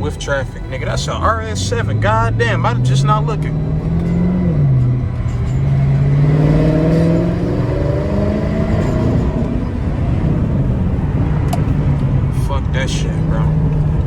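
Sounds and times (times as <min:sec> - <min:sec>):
loud car exhaust: 0:00.0 - 0:14.0.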